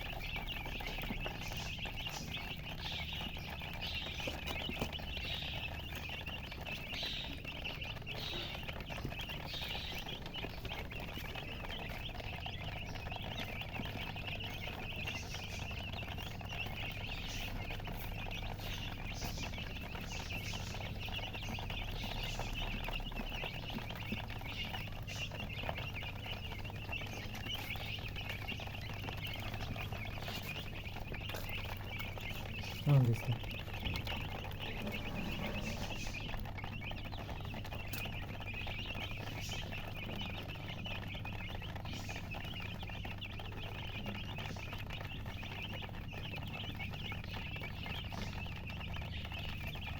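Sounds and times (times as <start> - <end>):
chicks chirping: 0.0 - 49.9
low steady hum: 0.0 - 49.9.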